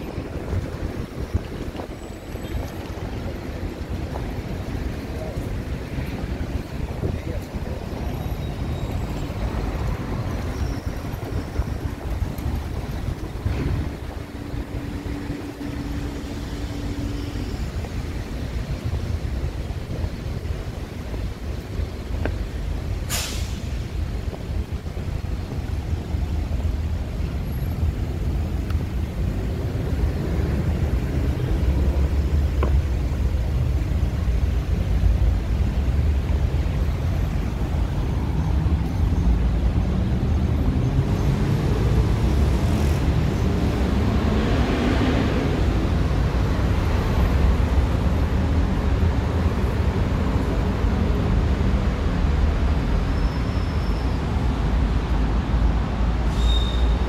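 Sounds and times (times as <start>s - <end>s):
low engine rumble of traffic: 0.0s - 57.0s
rushing traffic: 0.0s - 57.0s.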